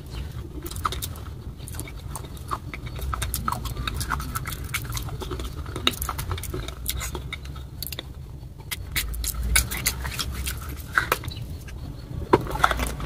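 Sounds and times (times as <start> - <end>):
crunching of baked clay: 0.0 - 13.0
wet mouth clicks: 0.5 - 11.8.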